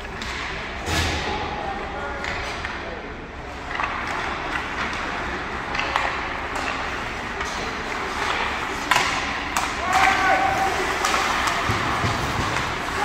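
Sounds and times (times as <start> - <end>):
hockey sticks clacking on puck: 0.0 - 1.2, 2.2 - 2.9, 3.5 - 13.0
arena noise: 0.0 - 13.0.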